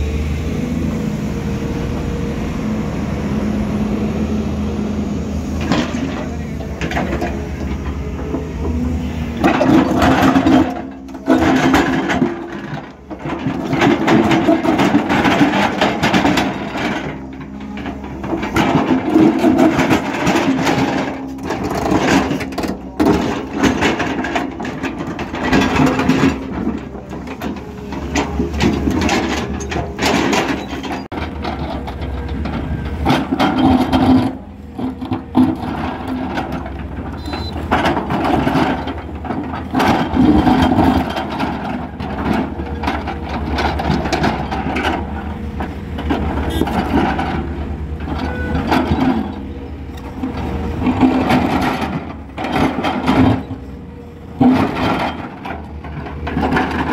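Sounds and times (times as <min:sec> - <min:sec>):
excavator diesel engine under load: 0:00.0 - 0:56.9.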